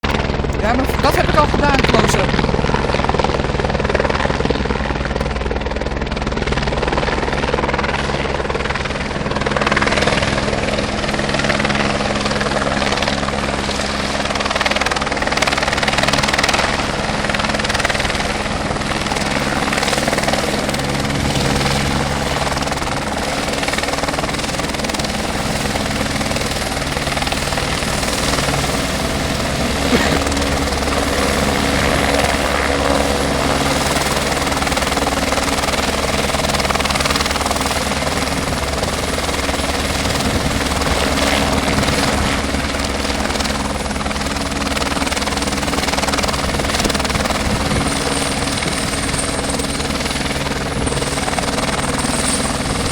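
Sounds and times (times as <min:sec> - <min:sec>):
helicopter rotor chop: 0:00.0 - 0:52.9.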